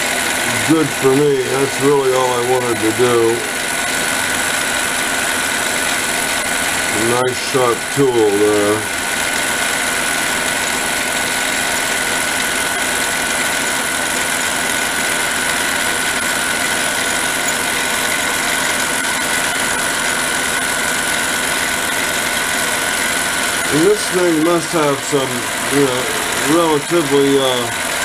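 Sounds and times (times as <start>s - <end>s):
lathe motor humming and whining: 0.0s - 28.0s.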